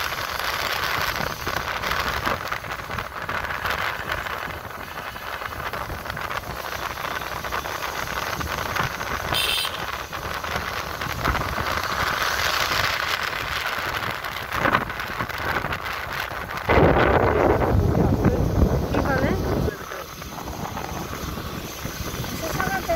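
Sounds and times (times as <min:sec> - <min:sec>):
motorcycle engine rumble: 0:00.0 - 0:22.9
wind and road noise: 0:00.0 - 0:22.9.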